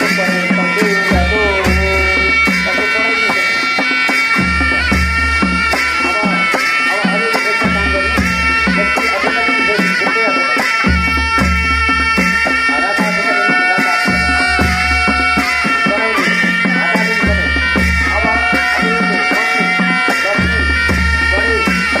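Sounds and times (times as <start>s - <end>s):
dance music with drum beat: 0.0s - 22.0s.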